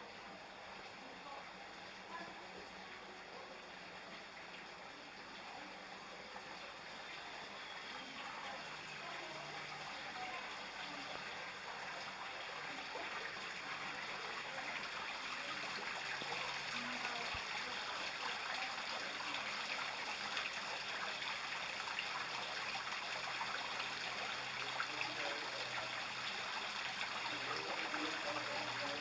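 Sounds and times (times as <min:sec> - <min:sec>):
running water splashing: 0:00.0 - 0:29.0.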